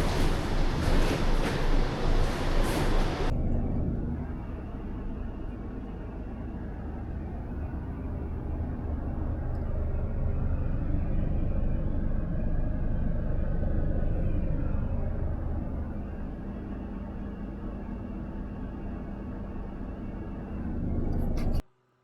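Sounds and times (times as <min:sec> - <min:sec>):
truck engine rumbling: 0:00.0 - 0:21.6.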